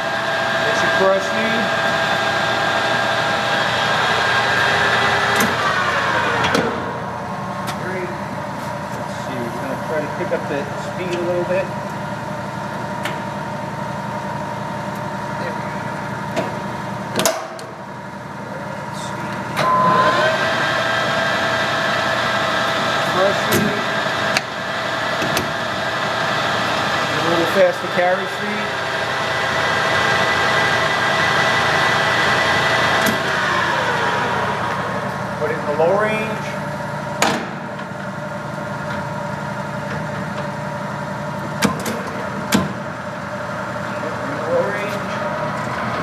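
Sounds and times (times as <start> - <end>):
metal lathe whining: 0.0 - 14.6, 18.8 - 41.5, 42.1 - 46.0.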